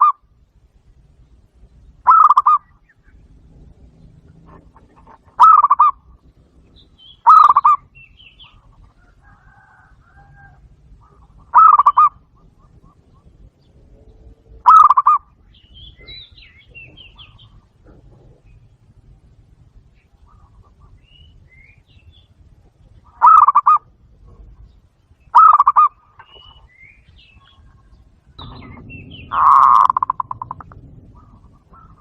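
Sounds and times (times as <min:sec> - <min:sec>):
dove trilled coos: 0:00.0 - 0:00.3, 0:01.6 - 0:32.0
small birds chirping: 0:00.0 - 0:32.0.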